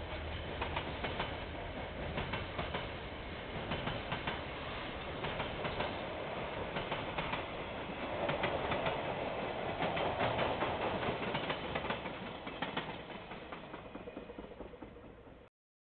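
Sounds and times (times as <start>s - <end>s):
train wheels clicking on rails: 0.0s - 15.5s.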